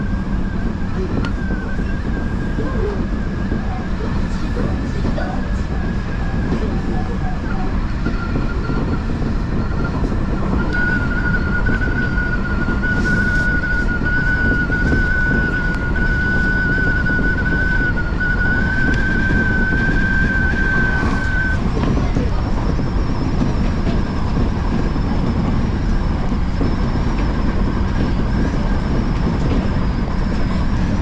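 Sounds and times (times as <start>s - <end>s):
high-pitched train whine: 0.0s - 31.0s
train wheels rumbling on rail: 0.0s - 31.0s.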